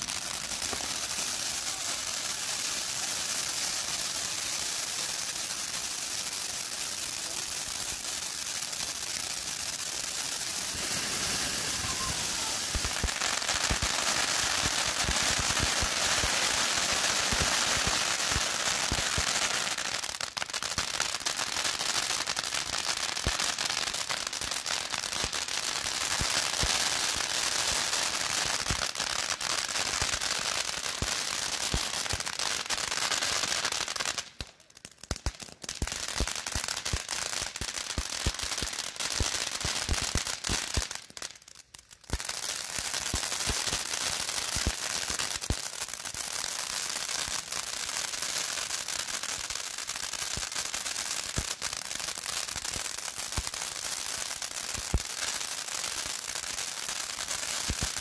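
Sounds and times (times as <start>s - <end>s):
firework fountain hissing and crackling: 0.0s - 58.0s.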